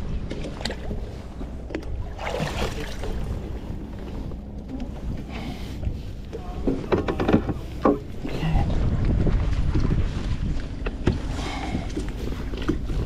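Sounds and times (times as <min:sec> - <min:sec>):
rustling and splashing: 0:00.0 - 0:13.0
wind rumble on microphone: 0:00.0 - 0:13.0.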